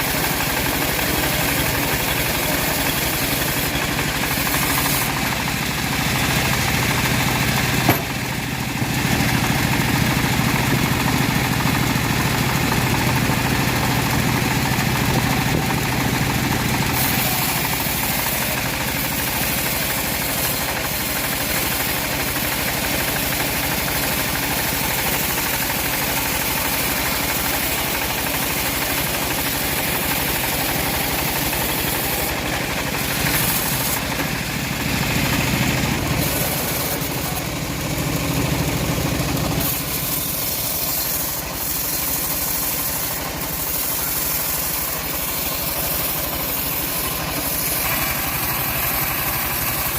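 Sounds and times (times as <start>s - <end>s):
band sawmill sawing wood: 0.0s - 49.9s.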